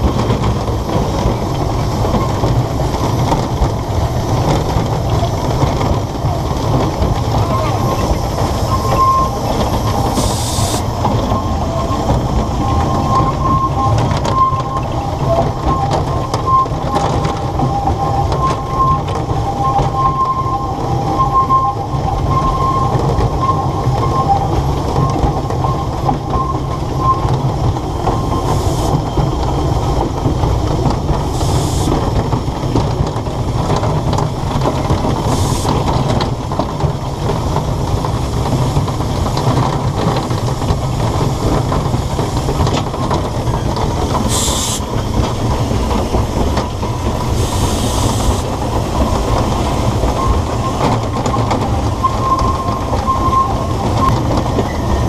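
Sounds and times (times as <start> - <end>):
train wheels rumbling on rails: 0.0 - 55.0
wheel squeal: 4.2 - 30.0, 31.2 - 32.0, 34.6 - 36.6, 37.9 - 55.0.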